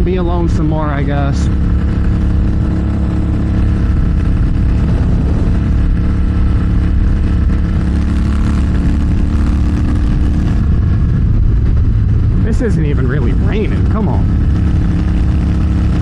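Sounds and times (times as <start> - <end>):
motorcycle engine cruising: 0.0 - 16.0
wind rushing over microphone: 0.0 - 16.0.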